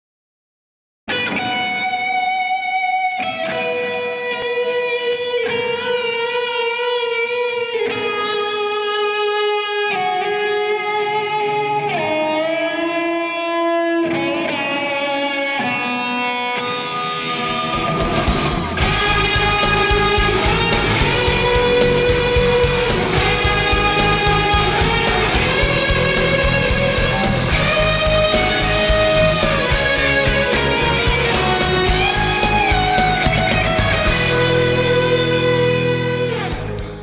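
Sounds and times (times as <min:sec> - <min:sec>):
electric guitar chords: 0:01.1 - 0:37.0
electric guitar lead notes: 0:01.1 - 0:37.0.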